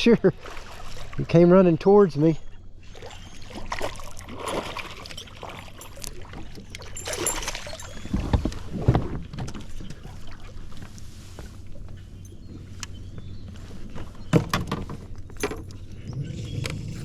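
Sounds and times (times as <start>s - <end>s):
water splashing: 0.0s - 1.7s, 2.8s - 17.0s.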